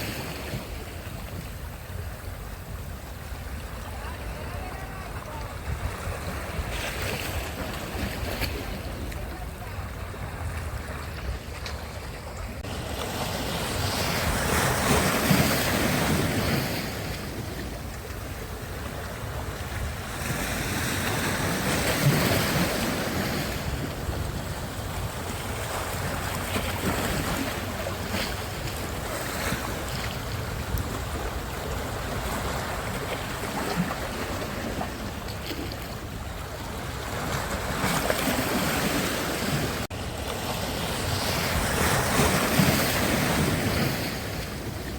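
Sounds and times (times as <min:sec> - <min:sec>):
waves breaking on beach: 0:00.0 - 0:44.9
wind buffeting microphone: 0:00.0 - 0:44.9.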